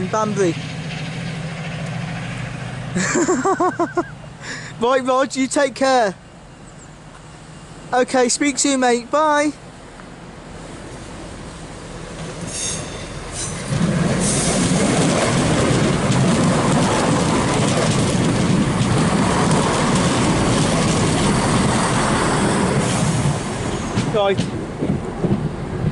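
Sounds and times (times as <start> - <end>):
train passing on rails: 0.0 - 25.9.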